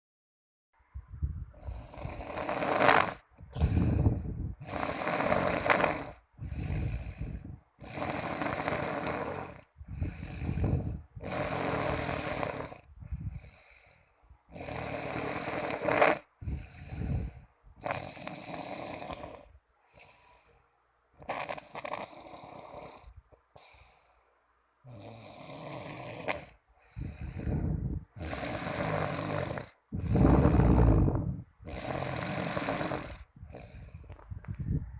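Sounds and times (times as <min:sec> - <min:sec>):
person snoring: 0:01.6 - 0:20.6, 0:21.2 - 0:24.1, 0:24.9 - 0:34.2.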